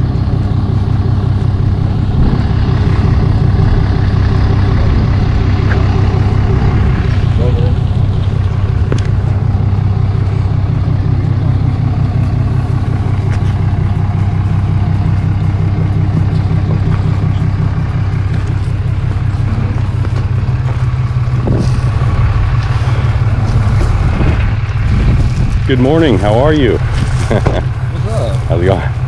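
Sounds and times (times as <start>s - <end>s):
engine running with low drone: 0.0s - 29.0s.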